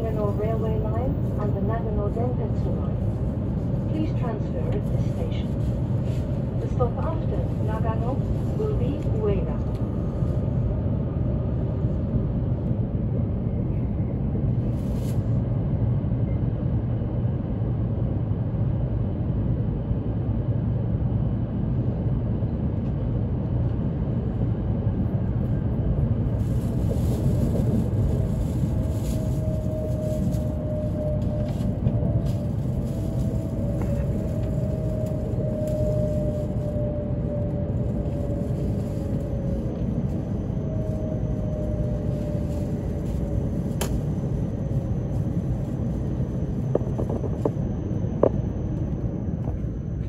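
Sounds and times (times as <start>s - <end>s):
train running rumble: 0.0s - 50.0s.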